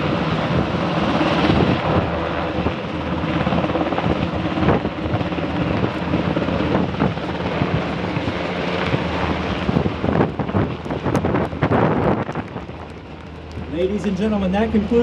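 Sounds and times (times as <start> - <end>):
helicopter rotor and turbine: 0.0 - 15.0
wind buffeting microphone: 0.0 - 15.0.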